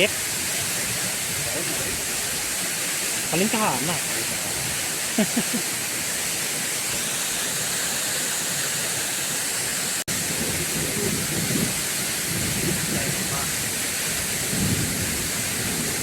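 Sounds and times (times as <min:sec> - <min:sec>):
heavy rain: 0:00.0 - 0:16.0
waterfall rushing: 0:00.0 - 0:16.0.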